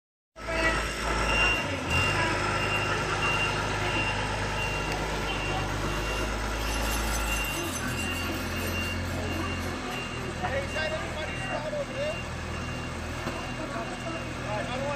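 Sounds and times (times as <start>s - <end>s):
engine low hum: 0.4s - 14.9s
reversing alarm beeping: 0.5s - 14.9s.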